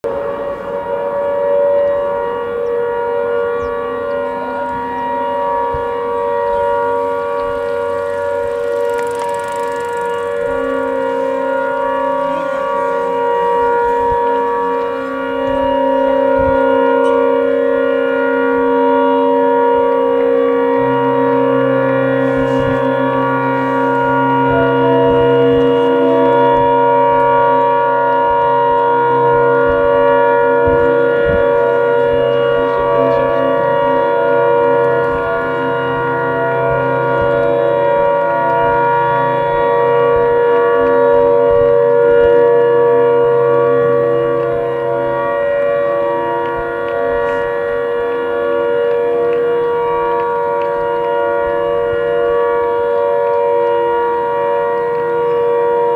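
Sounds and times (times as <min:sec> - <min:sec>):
low hum: 0:00.0 - 0:55.9
siren long steady note: 0:00.0 - 0:55.9.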